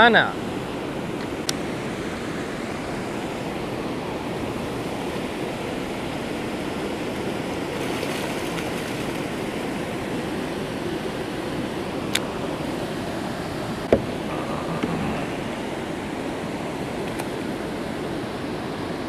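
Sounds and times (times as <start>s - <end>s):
water rushing from dam spillway: 0.0s - 19.0s.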